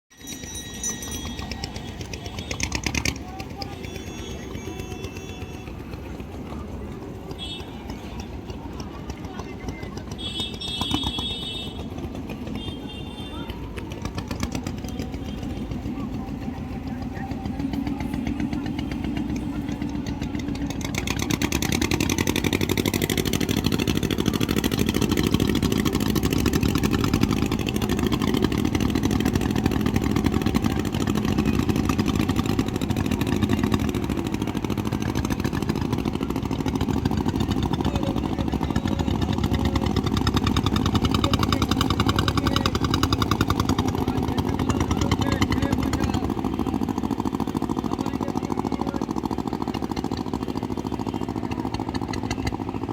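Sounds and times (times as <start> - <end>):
ferry boat engine running: 0.1 - 52.9.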